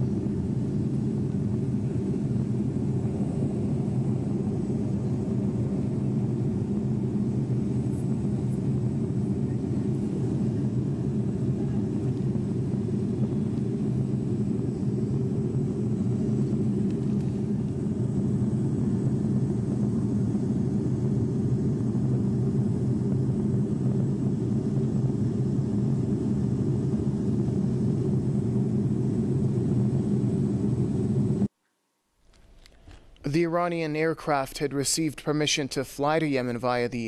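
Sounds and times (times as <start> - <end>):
airliner engines droning in cabin: 0.0 - 31.5
rushing airflow: 0.0 - 31.5.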